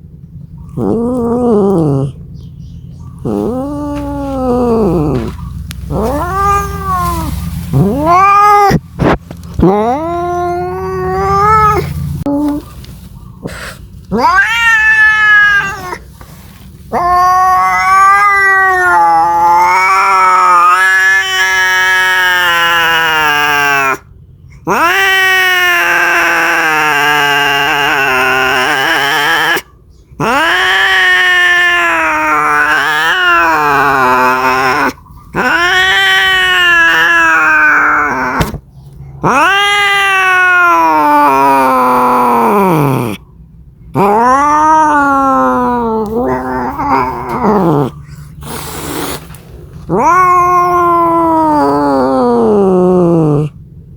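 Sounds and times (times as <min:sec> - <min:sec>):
cat yowling: 0:00.7 - 0:02.2, 0:03.2 - 0:12.7, 0:13.5 - 0:16.1, 0:16.9 - 0:43.2, 0:43.9 - 0:49.2, 0:49.8 - 0:53.6.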